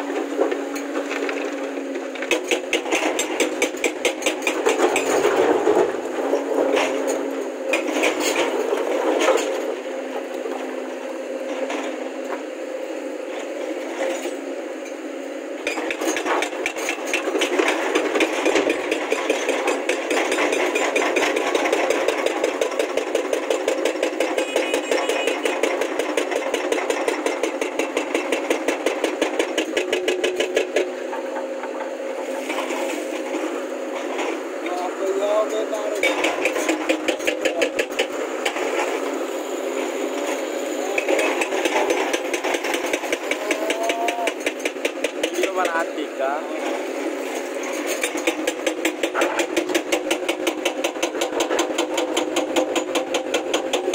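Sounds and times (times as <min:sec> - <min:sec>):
excavator diesel engine clatter: 0:00.0 - 0:53.9.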